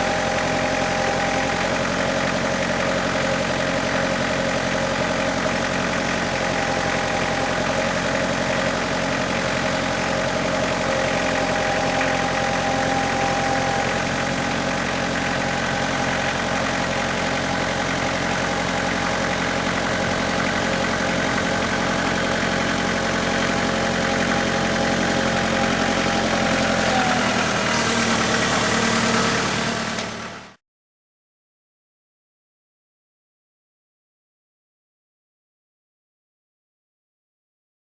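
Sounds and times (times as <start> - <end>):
tractor engine running: 0.0 - 30.6.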